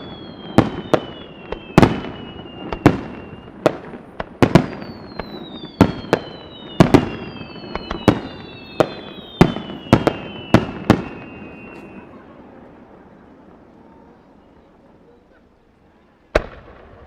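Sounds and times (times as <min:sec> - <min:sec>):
fireworks bangs: 0:00.0 - 0:15.4, 0:16.1 - 0:17.0
fireworks whistling: 0:00.0 - 0:17.0.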